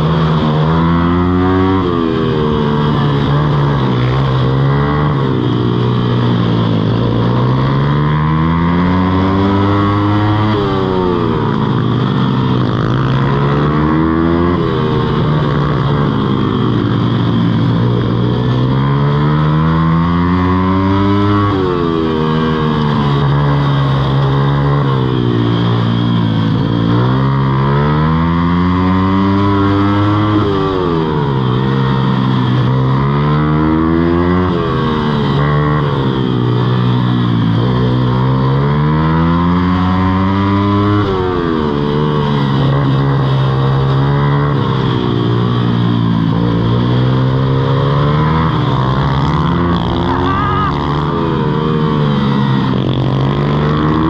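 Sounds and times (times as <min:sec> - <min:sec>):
small motorbike engines revving: 0:00.0 - 0:54.0.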